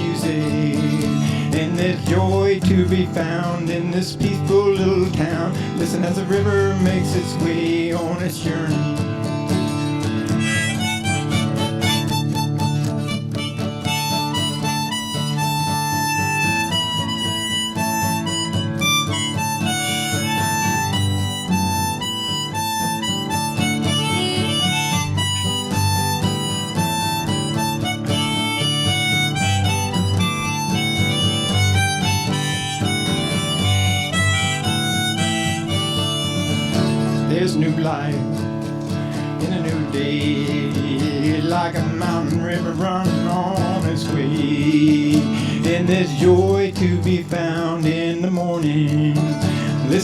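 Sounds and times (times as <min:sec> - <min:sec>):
harmonica melody: 0:00.0 - 0:47.9
acoustic guitar chords: 0:00.0 - 0:50.0.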